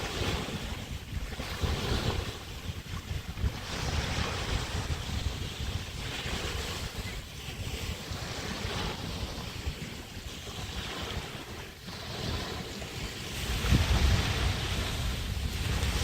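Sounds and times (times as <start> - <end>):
waves washing onto beach: 0.0 - 16.0
wind buffeting microphone: 0.0 - 16.0.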